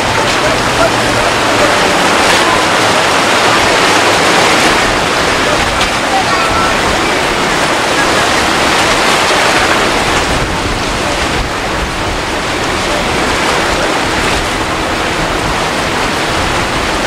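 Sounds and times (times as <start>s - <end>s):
churning water and breaking waves: 0.0s - 17.0s.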